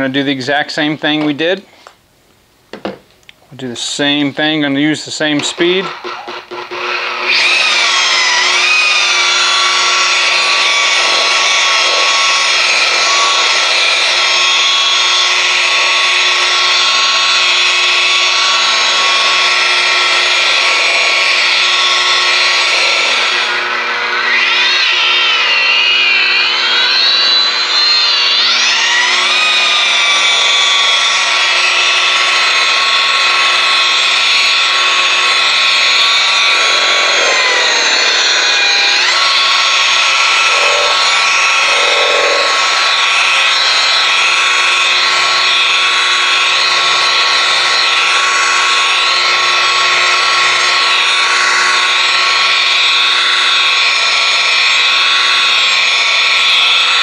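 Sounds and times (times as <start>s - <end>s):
rotary polisher motor whine: 5.3s - 57.0s.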